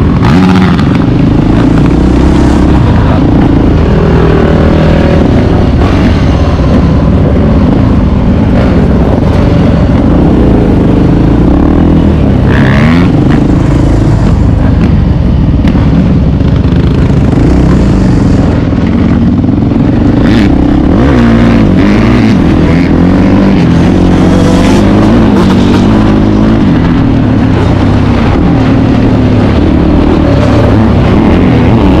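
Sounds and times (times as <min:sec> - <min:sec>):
quad bike engine revving: 0:00.0 - 0:32.0
wind noise on microphone: 0:00.0 - 0:32.0.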